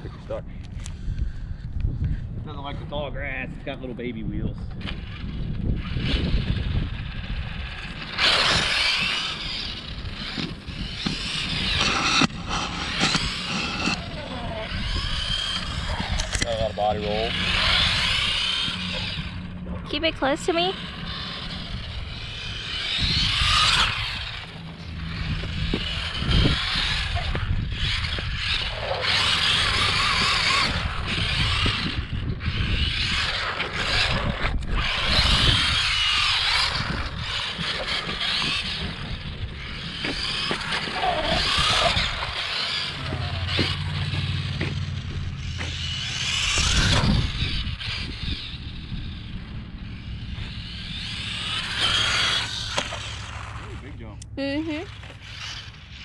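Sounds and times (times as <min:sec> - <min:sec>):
toy truck electric motor whining: 0:04.7 - 0:56.0.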